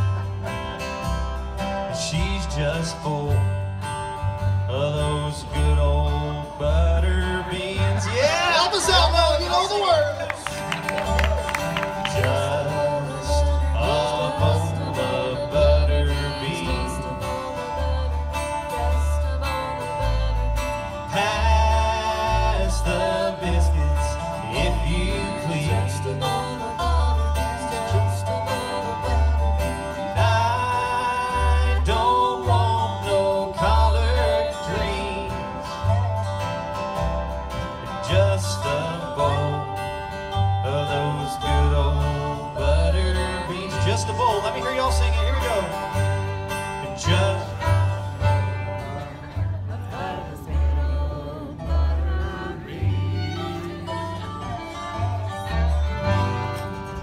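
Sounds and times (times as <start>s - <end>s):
fiddle melody: 0.0s - 57.0s
sliding steel guitar: 0.0s - 57.0s
strummed acoustic guitar: 0.0s - 57.0s.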